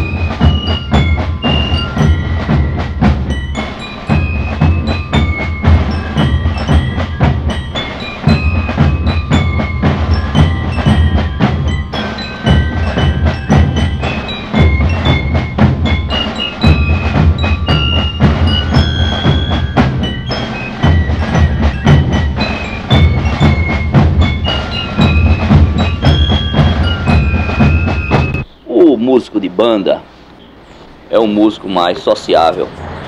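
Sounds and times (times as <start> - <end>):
bell lyre melody: 0.0 - 28.5
marching band playing: 0.0 - 28.5
snare and bass drum beats: 0.0 - 28.5.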